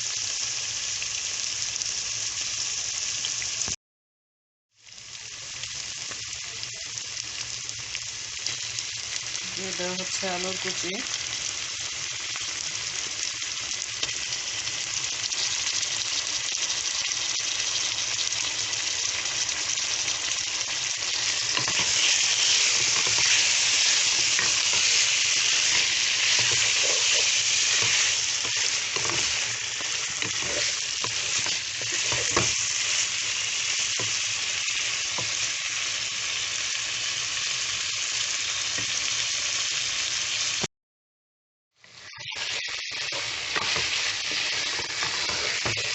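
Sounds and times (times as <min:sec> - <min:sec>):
food sizzling in hot oil: 0:00.0 - 0:03.8, 0:04.7 - 0:40.7, 0:41.8 - 0:45.9.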